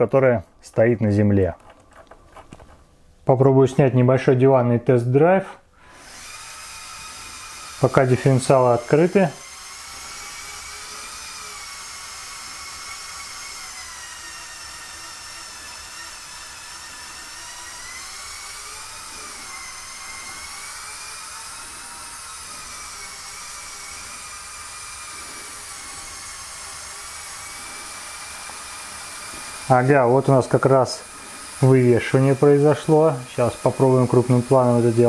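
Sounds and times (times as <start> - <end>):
toy truck motors whining: 5.8 - 35.0.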